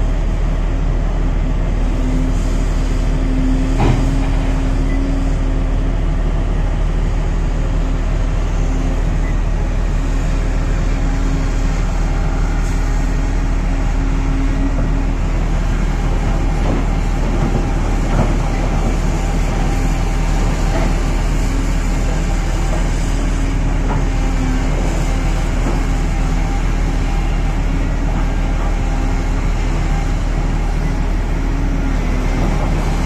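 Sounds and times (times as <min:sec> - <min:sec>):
excavator diesel engine: 0:00.0 - 0:33.0.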